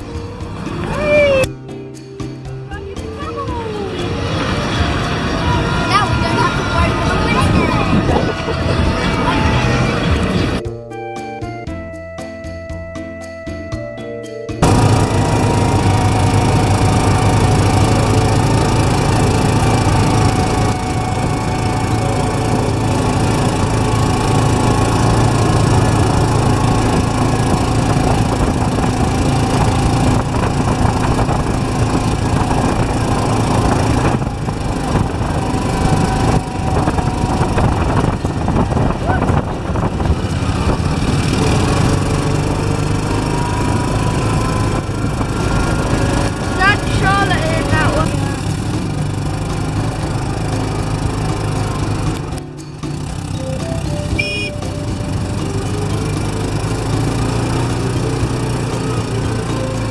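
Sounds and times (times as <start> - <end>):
small engine running: 2.6 - 10.6, 14.6 - 59.9.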